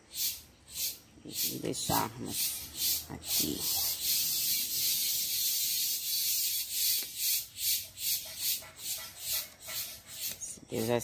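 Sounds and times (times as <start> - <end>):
cicada buzzing: 0.0 - 11.0.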